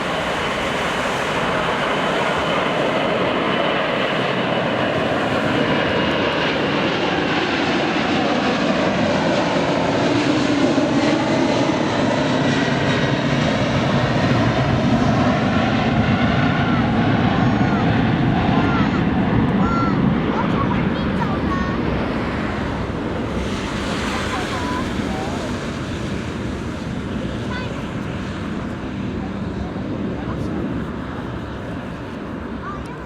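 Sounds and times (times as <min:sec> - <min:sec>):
jet engines at takeoff power: 0:00.0 - 0:33.0.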